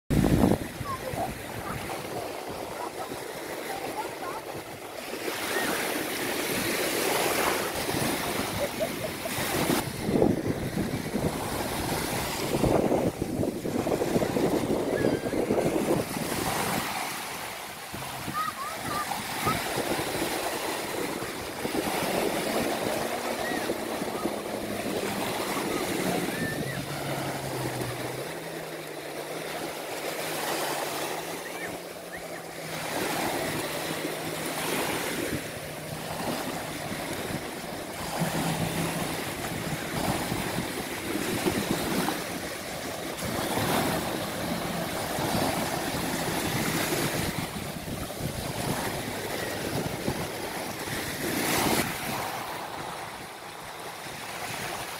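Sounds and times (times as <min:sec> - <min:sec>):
jet ski engine: 0:00.1 - 0:54.9
surf washing onto beach: 0:00.1 - 0:54.9.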